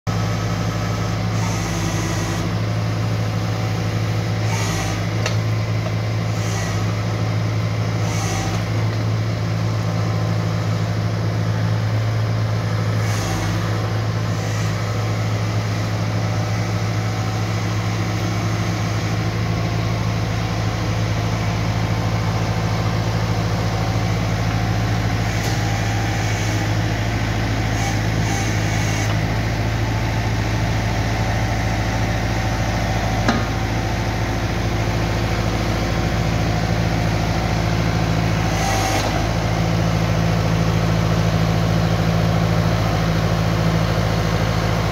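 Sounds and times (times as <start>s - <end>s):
diesel engine running: 0.1s - 44.9s.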